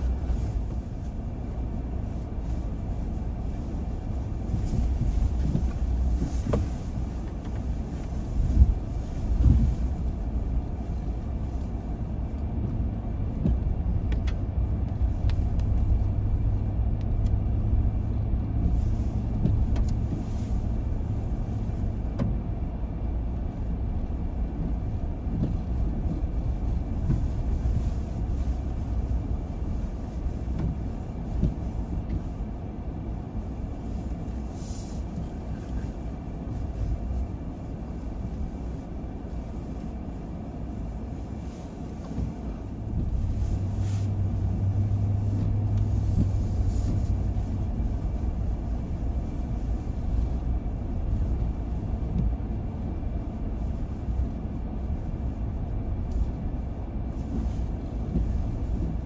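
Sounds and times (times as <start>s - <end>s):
car tyres and engine rumbling: 0.0s - 59.0s
steady low hum: 0.0s - 59.0s.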